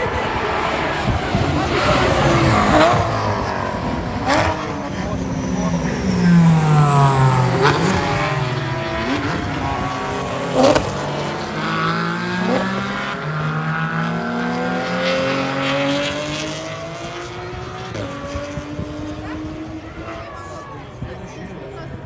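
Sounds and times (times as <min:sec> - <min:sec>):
race car engine revving: 0:00.0 - 0:21.6.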